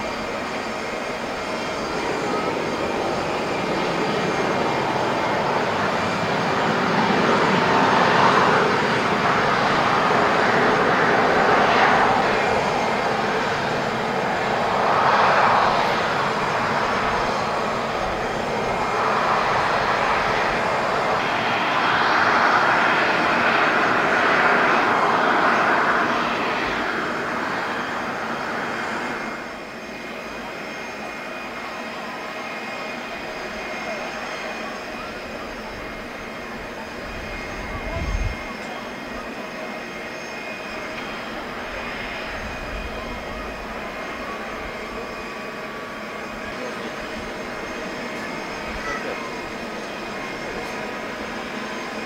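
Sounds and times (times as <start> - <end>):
jet engines idling: 0.0 - 52.0.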